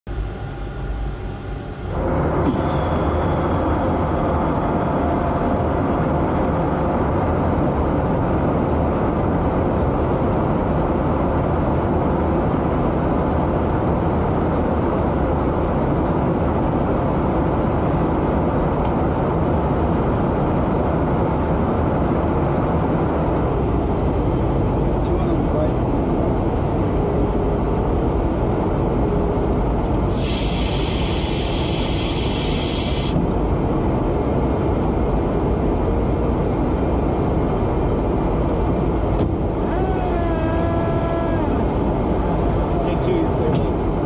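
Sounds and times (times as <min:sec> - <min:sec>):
jet engines humming in cabin: 0:00.1 - 0:44.0.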